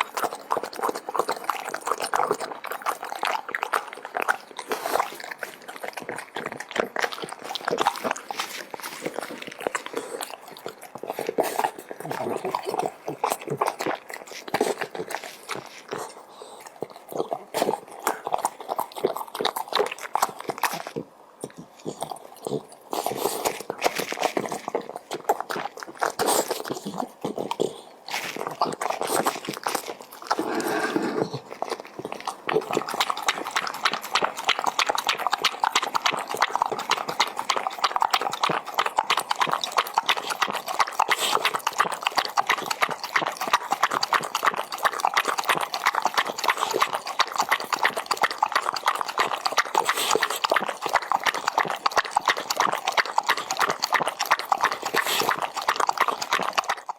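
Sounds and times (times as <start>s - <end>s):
dog chewing and crunching food: 0.0s - 56.9s.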